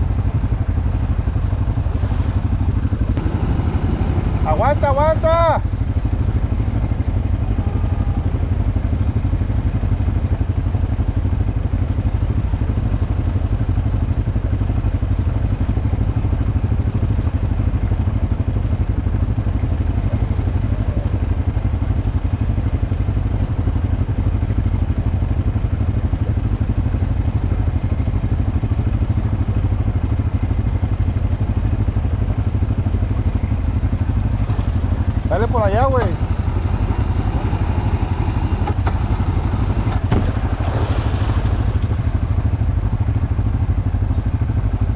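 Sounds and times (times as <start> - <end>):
atv engine rumbling: 0.0 - 44.9.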